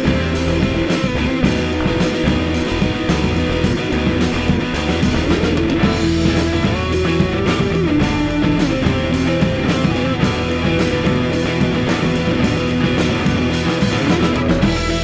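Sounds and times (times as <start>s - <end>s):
bass guitar: 0.0s - 15.0s
drum kit beat: 0.0s - 15.0s
sustained guitar notes: 0.0s - 15.0s.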